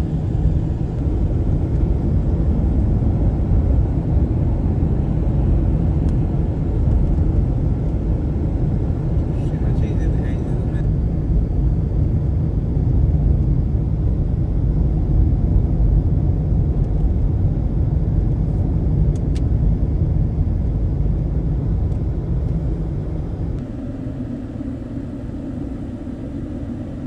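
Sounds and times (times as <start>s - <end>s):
vehicle rumble: 0.0s - 27.0s.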